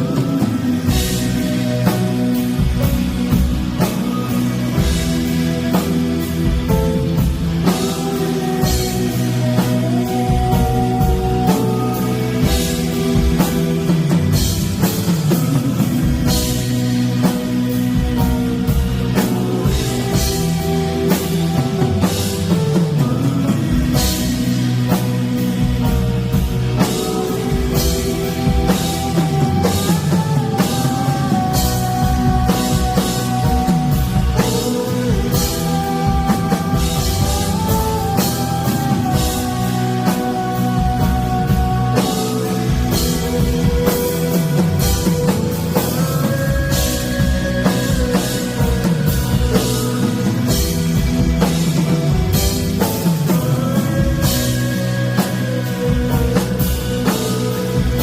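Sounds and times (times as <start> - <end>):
drum kit with cymbal crashes: 0.0 - 58.0
rock band playing: 0.0 - 58.0.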